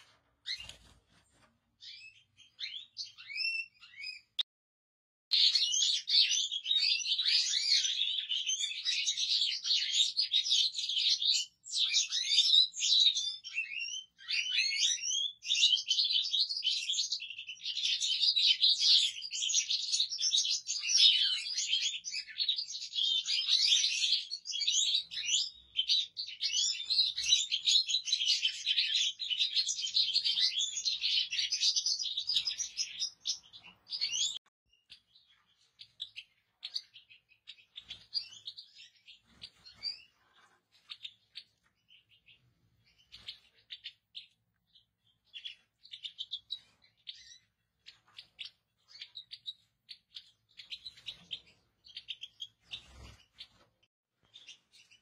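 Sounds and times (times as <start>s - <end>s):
finch twittering and trilling: 0.0s - 1.0s, 1.8s - 4.4s, 5.3s - 55.0s.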